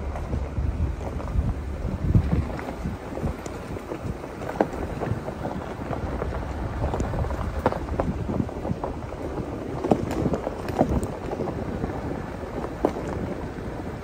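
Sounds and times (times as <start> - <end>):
tyres crunching on gravel: 0.0 - 14.0
vehicle rumble: 0.0 - 14.0
wind on microphone: 0.0 - 14.0.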